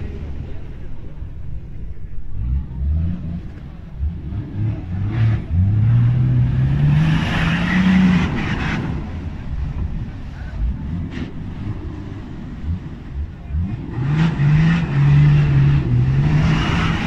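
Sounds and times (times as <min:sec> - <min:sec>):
suv engine revving under load: 0:02.2 - 0:17.0.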